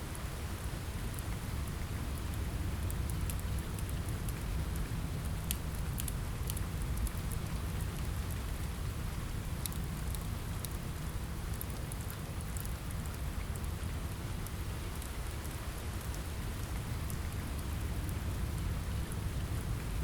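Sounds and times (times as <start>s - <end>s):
faint wood fire crackles: 0.0s - 20.0s
steady rain hiss: 0.0s - 20.0s.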